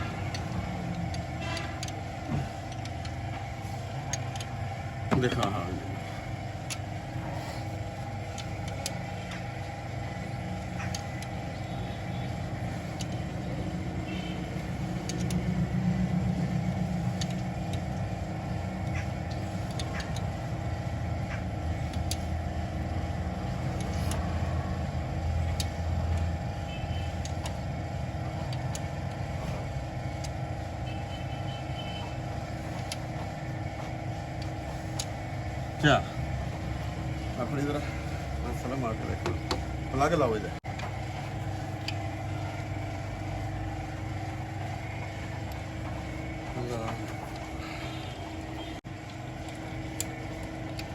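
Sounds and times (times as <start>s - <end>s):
car engine idling: 0.0s - 50.9s
light engine ticks: 0.0s - 50.9s.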